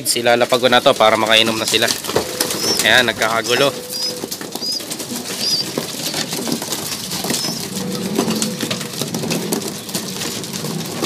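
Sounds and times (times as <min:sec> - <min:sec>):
pigeons scuffling on floor: 0:00.1 - 0:11.0
pigeon wings flapping: 0:00.4 - 0:11.0
pigeons cooing: 0:00.5 - 0:11.0.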